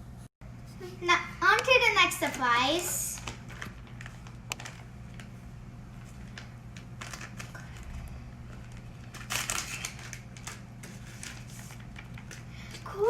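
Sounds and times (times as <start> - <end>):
low steady hum: 0.0 - 13.0
packaging rustling and crinkling: 2.2 - 12.9.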